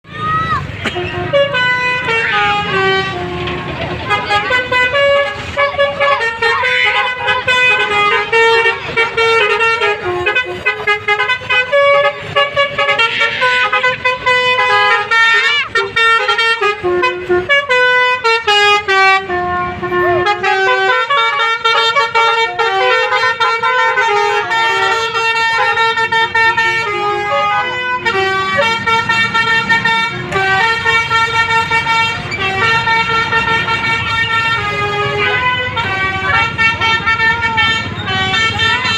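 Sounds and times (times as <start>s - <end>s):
multi-tone bus horn melody: 0.2s - 38.9s.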